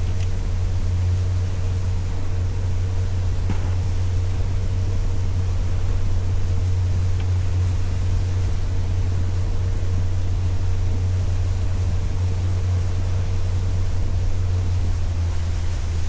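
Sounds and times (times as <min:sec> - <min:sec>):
boat motor droning: 0:00.0 - 0:16.0.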